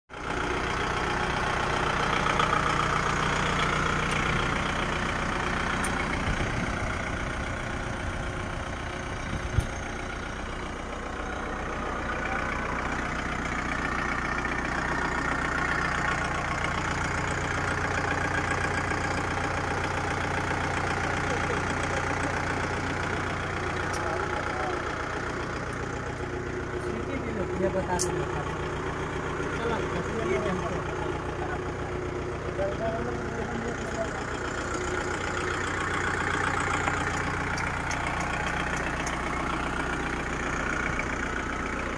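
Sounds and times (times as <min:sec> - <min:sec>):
tractor diesel engine idling: 0:00.1 - 0:41.9.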